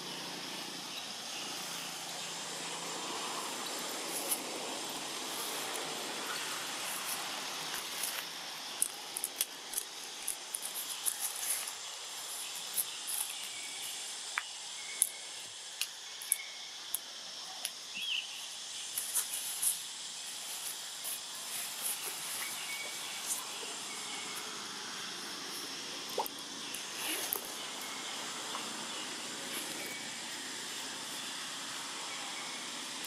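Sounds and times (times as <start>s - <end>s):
insect-like hiss: 0.0s - 33.0s.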